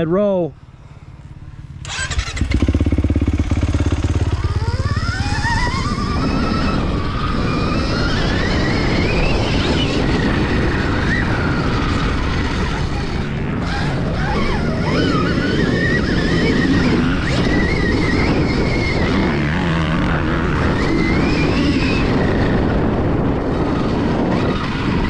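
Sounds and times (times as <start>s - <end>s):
rising engine whine: 0.0s - 25.0s
motocross bikes revving: 1.8s - 25.0s.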